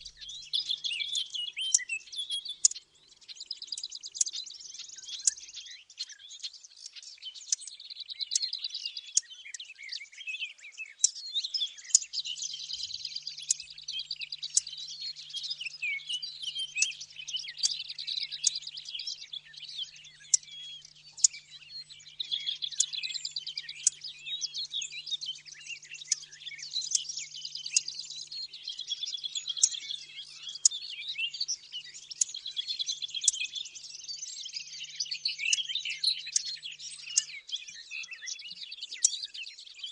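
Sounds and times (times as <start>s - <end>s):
sharp ticking bird calls: 0.0s - 39.8s
warbler song: 0.0s - 39.9s.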